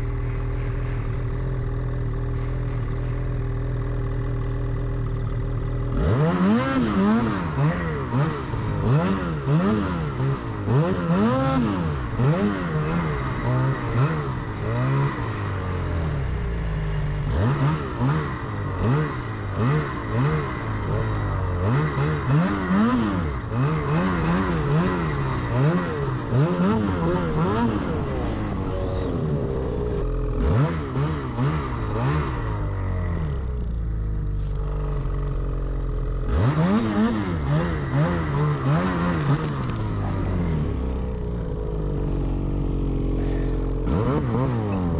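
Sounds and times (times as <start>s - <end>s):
snowmobile engine idling: 0.0s - 44.9s
snowmobile engine revving: 5.6s - 44.9s.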